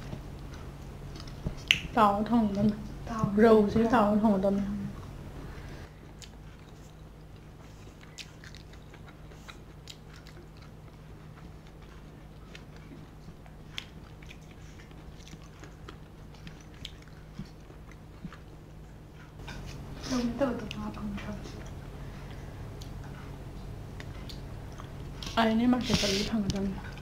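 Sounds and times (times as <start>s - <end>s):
chewing with crunches: 0.0s - 3.0s, 4.9s - 27.0s
low steady hum: 0.0s - 27.0s.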